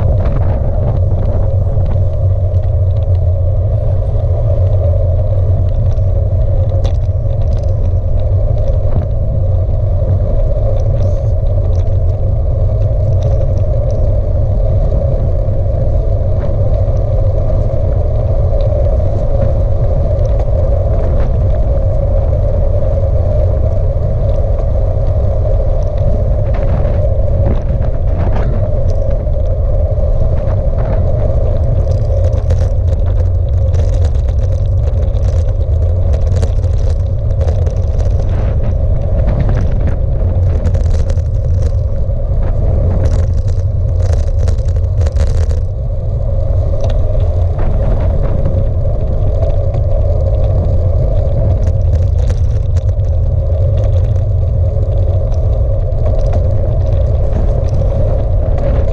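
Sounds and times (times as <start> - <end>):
faint ticks: 0.0 - 3.3, 4.3 - 58.9
bicycle tyres on road: 0.0 - 58.9
wind rumble on microphone: 0.0 - 58.9.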